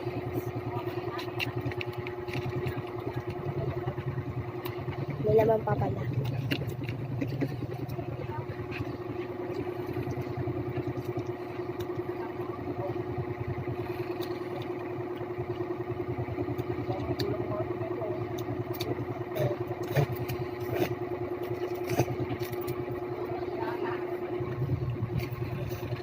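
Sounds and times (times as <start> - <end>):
pulsing machine hum: 0.0 - 26.0.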